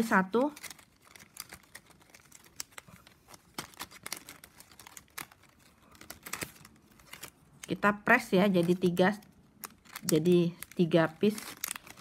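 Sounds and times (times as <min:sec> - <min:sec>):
plastic strips clicking and crinkling: 0:00.0 - 0:12.0.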